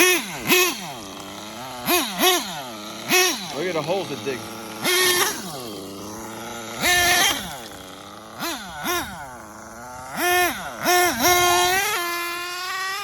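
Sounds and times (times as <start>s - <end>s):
rc truck engine revving: 0.0s - 13.0s.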